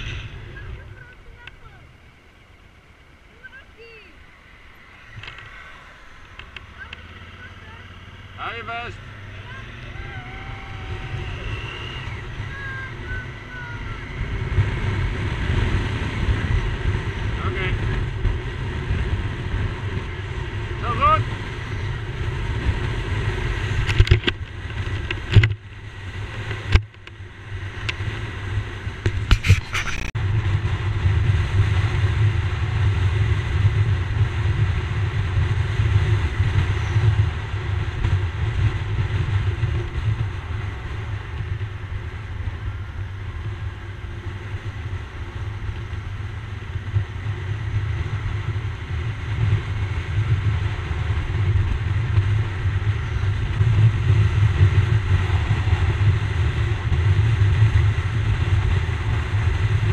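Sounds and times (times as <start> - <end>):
motorcycle engine and road rumble: 0.0 - 59.9.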